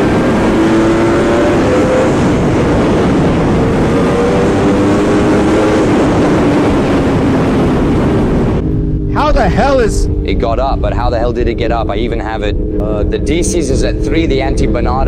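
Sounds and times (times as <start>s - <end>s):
motorcycle engine accelerating: 0.0s - 15.0s
wind rush: 0.0s - 15.0s.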